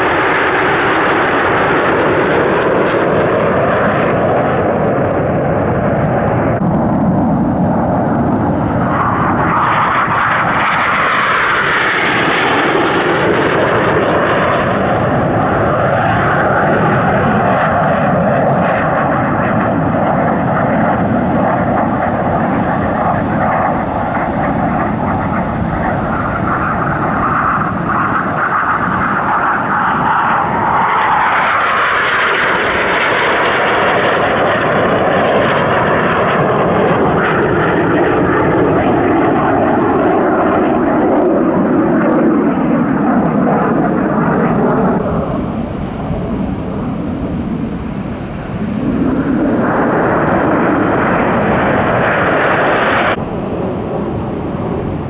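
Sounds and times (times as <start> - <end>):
jet passing overhead: 0.0 - 55.0.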